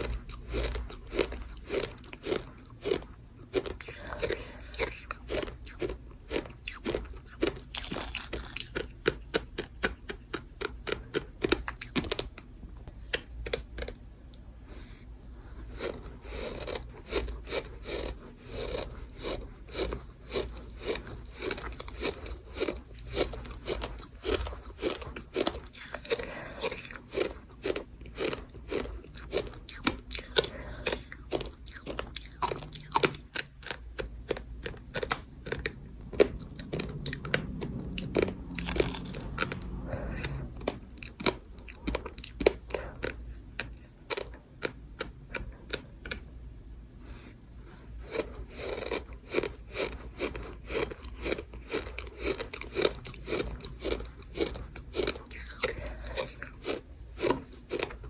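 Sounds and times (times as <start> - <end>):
gritty sand being chewed: 0.0 - 46.3, 47.0 - 58.0.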